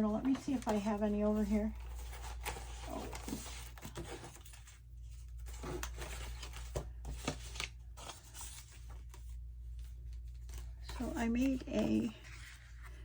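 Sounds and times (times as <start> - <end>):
paper rustling and shuffling: 0.0 - 13.0.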